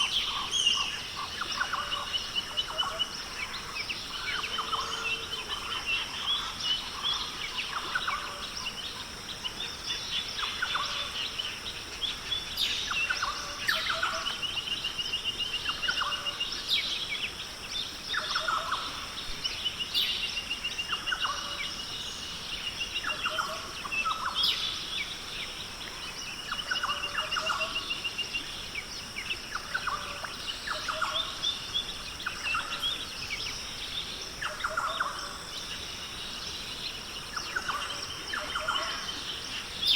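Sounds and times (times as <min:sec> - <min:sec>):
birds calling and trilling: 0:00.0 - 0:39.9
steady high-pitched hiss: 0:00.0 - 0:39.9.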